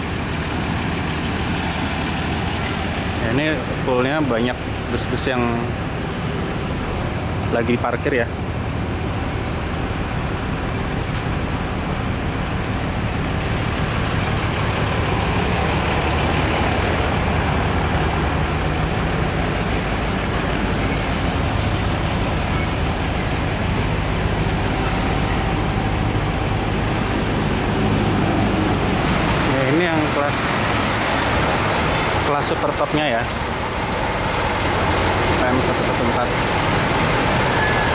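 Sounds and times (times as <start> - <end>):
heavy vehicle engine idling: 0.0 - 37.9.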